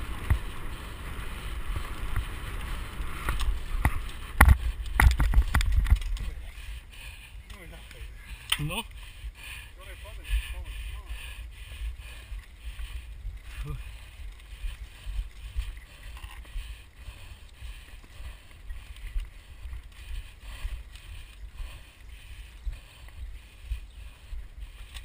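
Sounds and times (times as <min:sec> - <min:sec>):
wind rumble on microphone: 0:00.0 - 0:08.2, 0:10.2 - 0:25.0
tyres crunching and bike rattling: 0:00.0 - 0:25.0.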